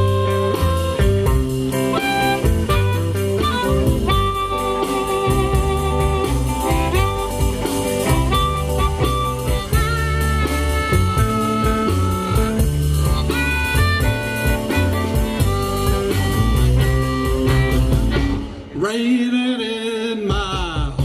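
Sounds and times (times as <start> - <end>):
lead guitar wavering notes: 0.0 - 18.8
bass guitar: 0.0 - 19.0
drums: 0.0 - 21.0.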